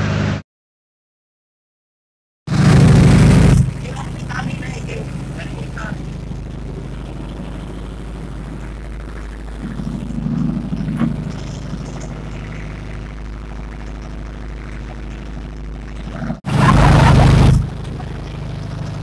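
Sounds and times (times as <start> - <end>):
motorboat engine running: 2.5 - 19.0.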